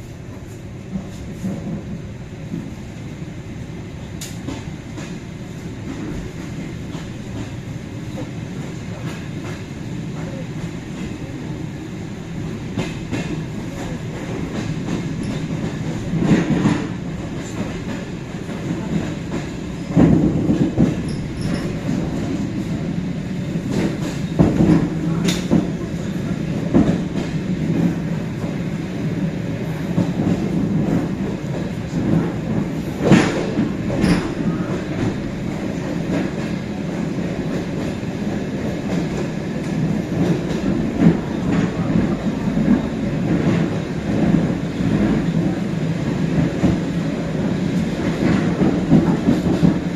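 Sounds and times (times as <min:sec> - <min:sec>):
train wheels rumbling: 0:00.0 - 0:49.9.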